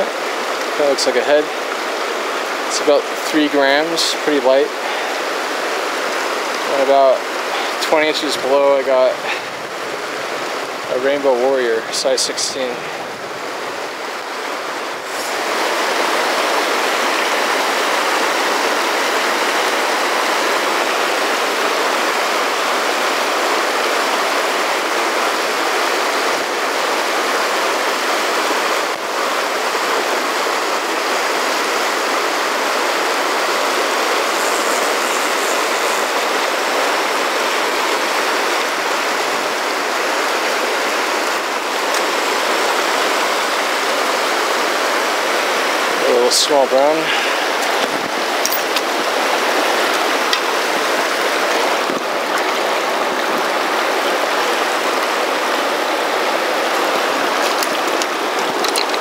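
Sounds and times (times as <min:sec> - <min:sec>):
river rapids rushing over rocks: 0:00.0 - 0:59.0.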